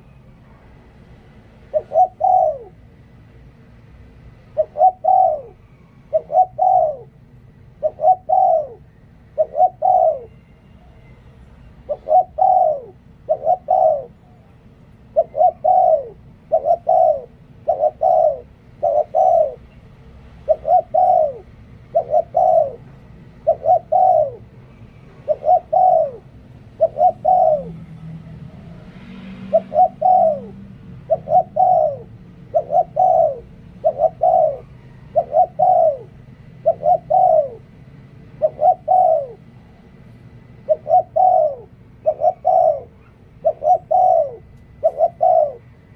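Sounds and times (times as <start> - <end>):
dove cooing: 1.5 - 3.1, 4.4 - 11.1, 11.8 - 45.9.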